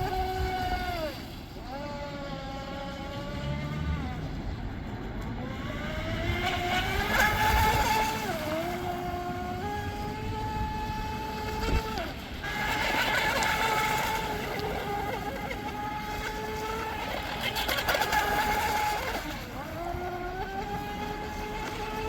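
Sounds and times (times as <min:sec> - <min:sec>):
electric motor whine of rc boat: 0:00.0 - 0:22.0.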